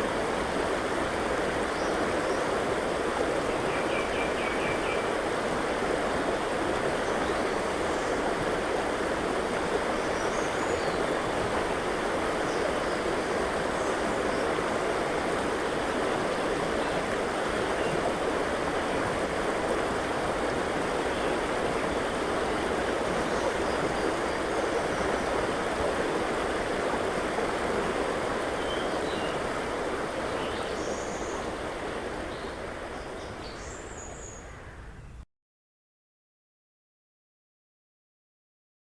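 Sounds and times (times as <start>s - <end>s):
river water flowing: 0.0s - 34.8s.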